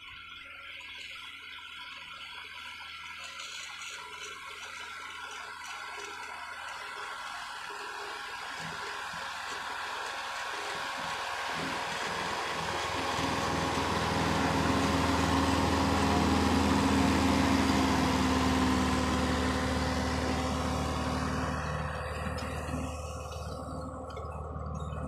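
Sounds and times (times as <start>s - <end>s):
tractor engine running: 2.6s - 25.0s.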